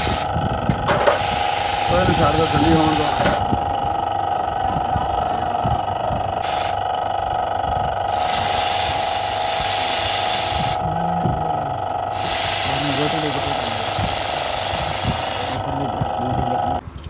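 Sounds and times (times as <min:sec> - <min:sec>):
electric ratchet spinning: 0:00.0 - 0:16.7
steady hum: 0:00.0 - 0:16.8.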